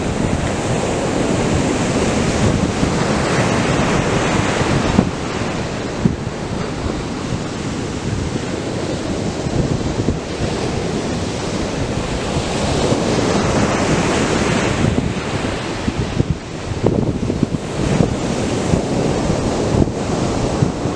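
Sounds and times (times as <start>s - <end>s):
surf waves breaking: 0.0s - 20.9s
wind buffeting microphone: 0.0s - 20.9s.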